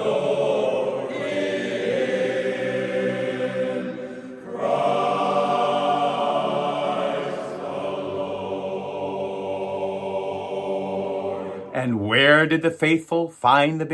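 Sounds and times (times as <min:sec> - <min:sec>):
barbershop chorus singing a cappella: 0:00.0 - 0:12.0.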